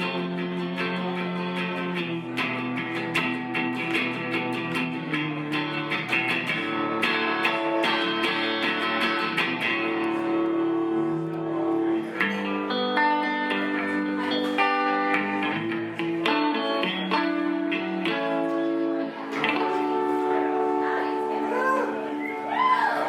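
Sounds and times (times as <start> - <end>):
electric guitar strumming: 0.0 - 23.0.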